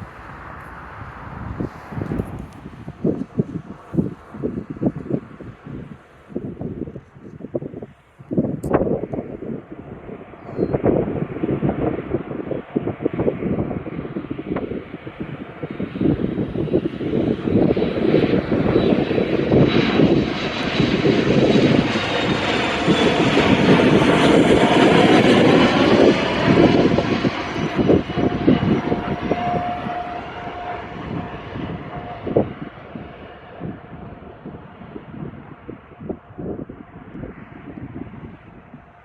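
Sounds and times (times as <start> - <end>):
jet passing overhead: 0.0 - 39.0.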